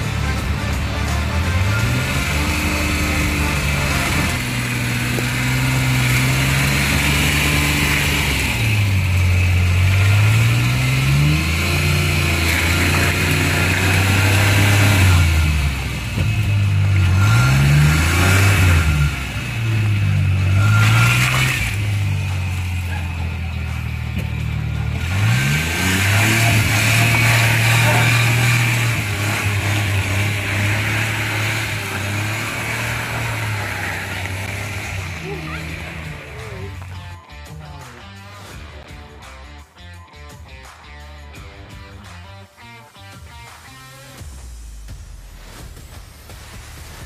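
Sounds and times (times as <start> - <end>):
small truck engine revving: 0.0 - 38.9.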